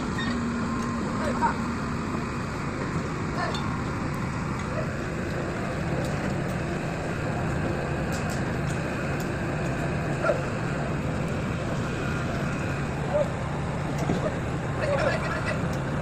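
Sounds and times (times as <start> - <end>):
hydraulic engine droning: 0.0 - 16.0.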